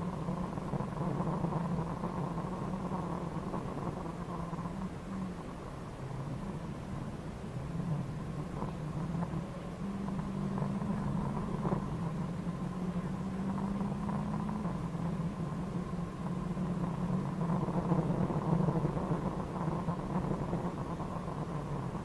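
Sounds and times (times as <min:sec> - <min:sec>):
car engine running hard: 0:00.0 - 0:22.0
road rumble: 0:00.0 - 0:22.0.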